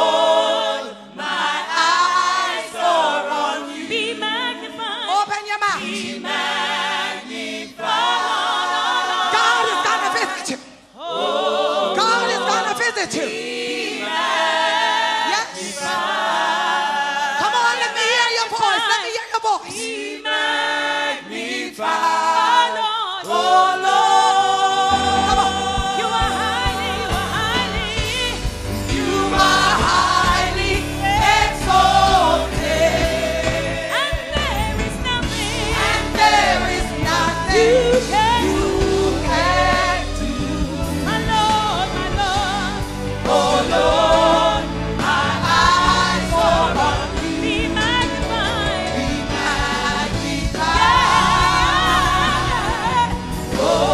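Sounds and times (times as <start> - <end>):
worship band playing: 0.0 - 19.1, 19.8 - 53.9
congregation singing: 0.0 - 53.9.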